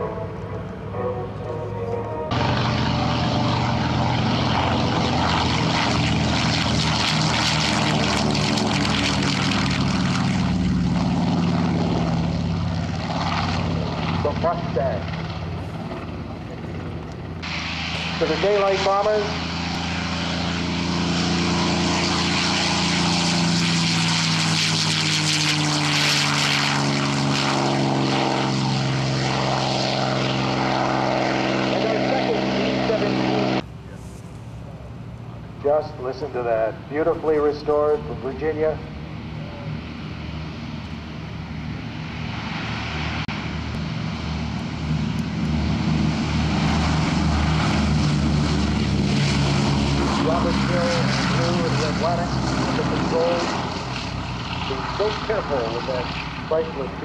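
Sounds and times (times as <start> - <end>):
propeller plane engines droning: 0.0 - 57.0.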